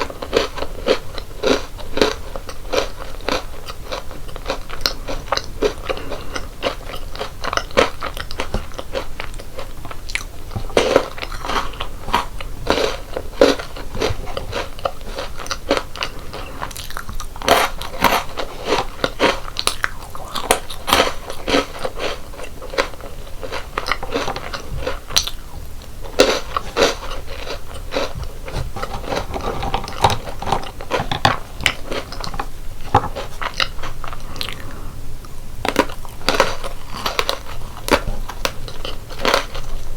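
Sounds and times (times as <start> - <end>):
crunching and chewing snacks: 0.0 - 39.9.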